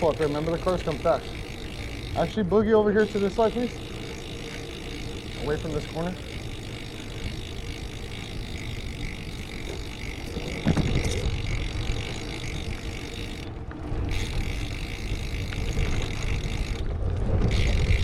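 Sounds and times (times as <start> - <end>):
bicycle tyre rumble on road: 0.0 - 18.0.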